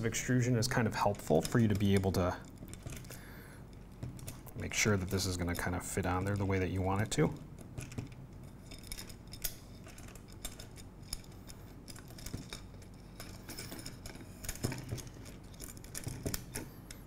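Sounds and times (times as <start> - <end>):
metallic clicks and scrapes: 0.0 - 17.0.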